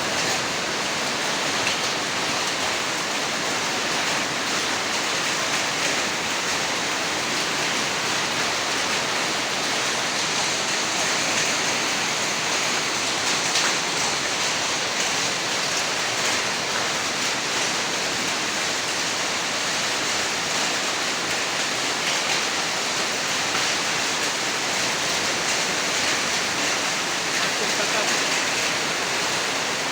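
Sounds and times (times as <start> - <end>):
heavy rain and hail: 0.0 - 29.9.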